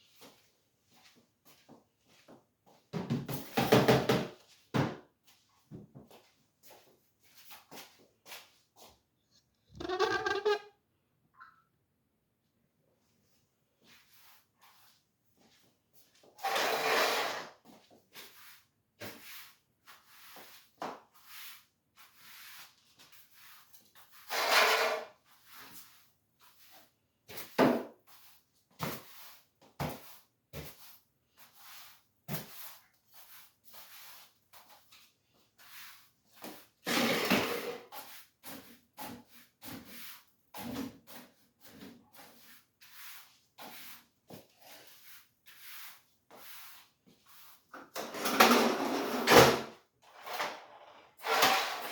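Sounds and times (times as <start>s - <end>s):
broom sweeping floor: 0.0s - 9.1s, 13.2s - 49.4s, 51.2s - 51.9s.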